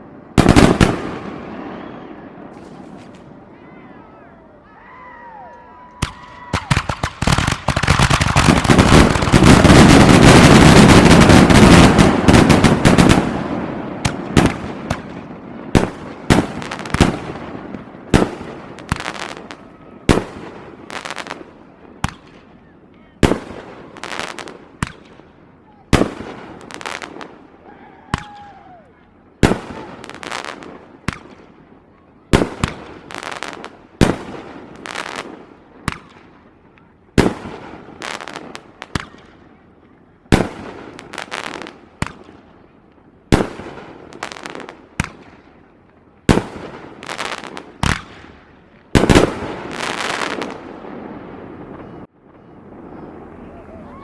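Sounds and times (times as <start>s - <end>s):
fireworks bangs and crackling: 0.0s - 3.5s, 5.8s - 54.0s.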